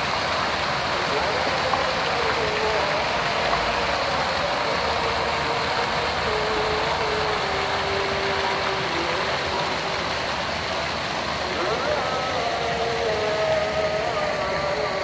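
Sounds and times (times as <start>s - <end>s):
fountain jets splashing into pool: 0.0s - 15.0s.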